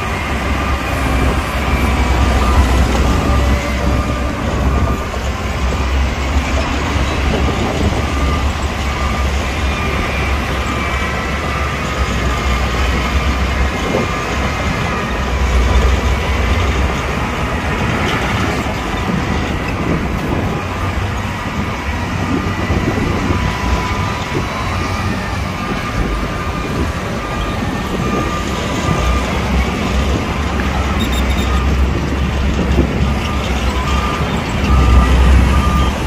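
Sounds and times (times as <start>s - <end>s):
crawler tracks clanking and squealing: 0.0s - 36.0s
diesel engine rumbling: 0.0s - 36.0s.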